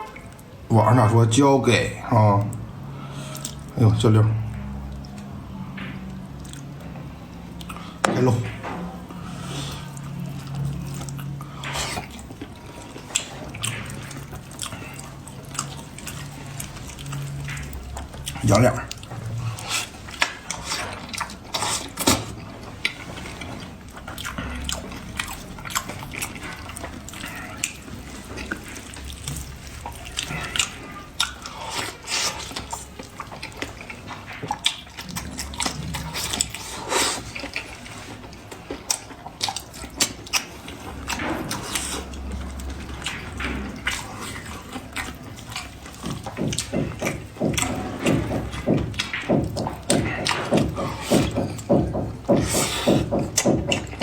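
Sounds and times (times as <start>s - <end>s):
sharp mouth clicks and smacks: 2.4s - 3.8s, 4.5s - 6.9s, 7.5s - 54.0s
wet chewing and biting: 2.4s - 3.8s, 4.4s - 54.0s.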